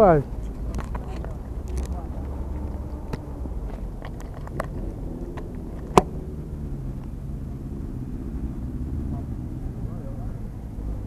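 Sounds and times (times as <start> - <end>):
street traffic rumble: 0.0 - 11.0
wind on microphone: 0.2 - 9.9.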